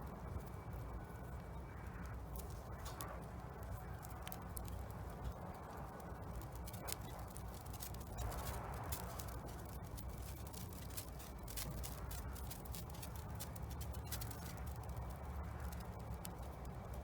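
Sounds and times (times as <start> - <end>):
steady low rumble: 0.0 - 17.0
wood fire crackling: 0.0 - 17.0.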